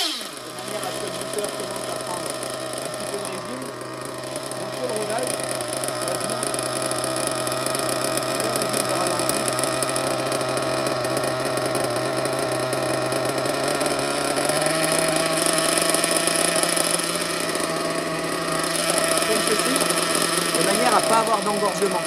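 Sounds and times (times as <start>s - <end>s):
nitro engine idling: 0.0s - 22.0s.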